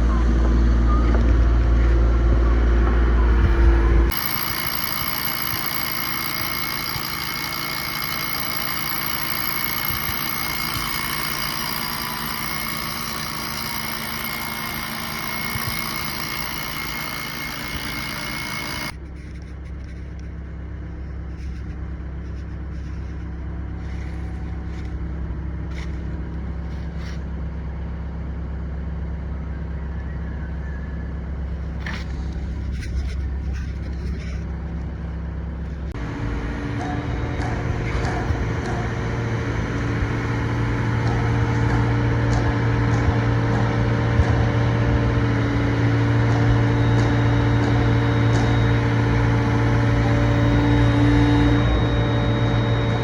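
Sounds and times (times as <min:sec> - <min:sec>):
heavy construction machinery running: 0:00.0 - 0:53.0.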